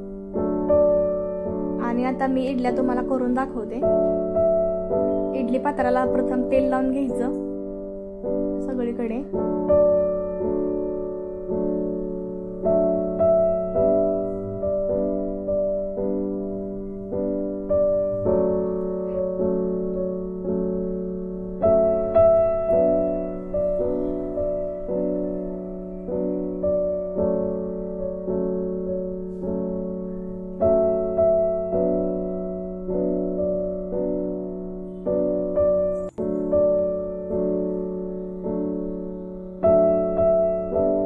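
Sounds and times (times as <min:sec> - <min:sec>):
slow piano melody: 0:00.0 - 0:41.0.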